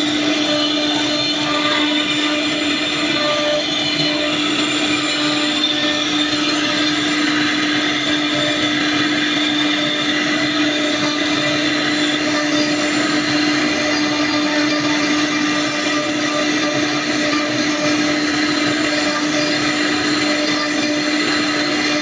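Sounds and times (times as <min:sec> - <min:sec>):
wood router running: 0:00.0 - 0:22.0.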